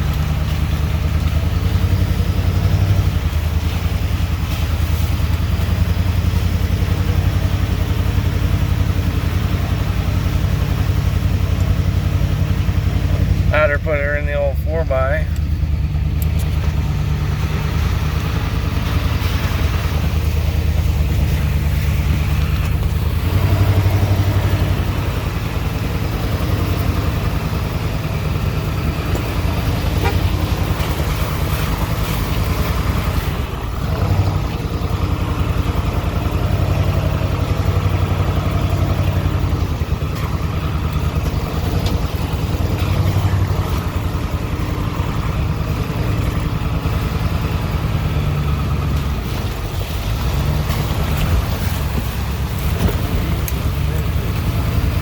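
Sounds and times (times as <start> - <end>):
truck engine droning at low speed: 0.0 - 55.0.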